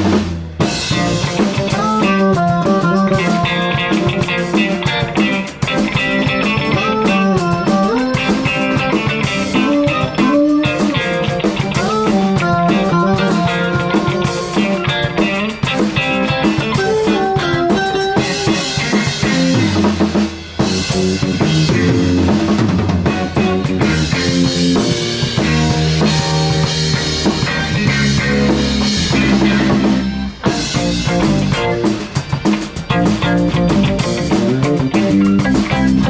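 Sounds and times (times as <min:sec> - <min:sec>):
rock band playing: 0:00.0 - 0:36.0.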